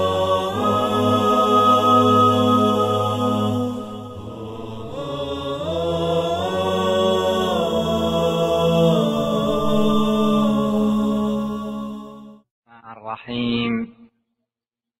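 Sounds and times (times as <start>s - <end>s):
harmonised vocal chant: 0.0s - 13.9s.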